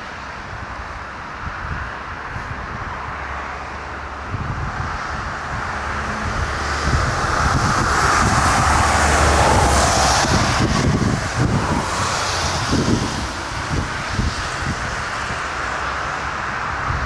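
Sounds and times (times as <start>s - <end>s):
jet airliner engines roaring: 0.0s - 17.0s
wind buffeting microphone: 0.4s - 17.0s.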